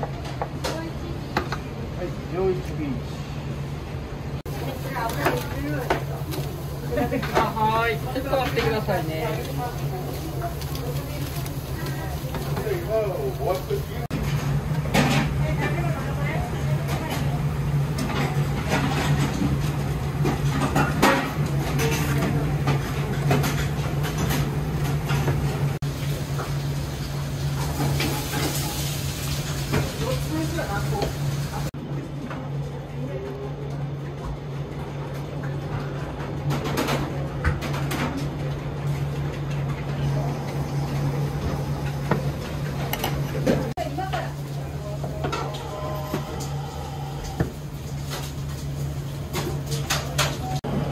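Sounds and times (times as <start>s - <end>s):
kitchen equipment hum: 0.0s - 50.9s.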